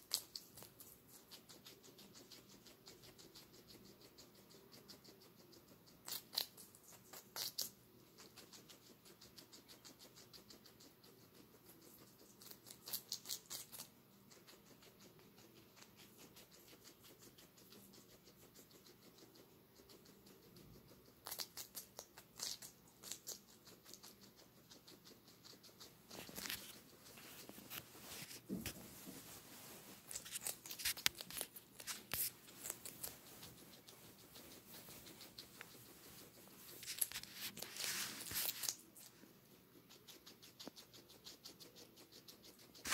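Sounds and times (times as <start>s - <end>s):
faint steady chewing: 0.0s - 42.9s
guinea pig crunching pepper: 0.0s - 42.9s.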